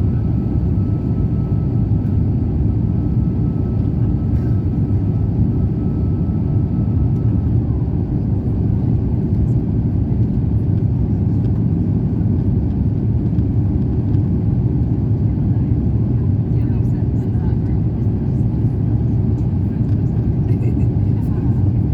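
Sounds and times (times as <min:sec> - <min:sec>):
airplane cabin rumble: 0:00.0 - 0:21.9.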